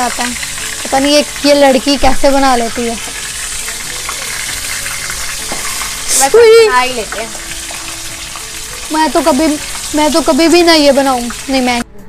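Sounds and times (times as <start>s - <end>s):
food sizzling in hot oil: 0.0s - 11.9s.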